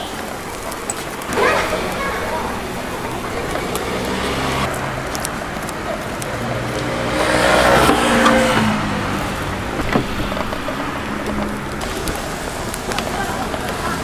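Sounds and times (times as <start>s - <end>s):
street noise: 0.0s - 14.0s
vehicle passing close by: 1.2s - 14.0s.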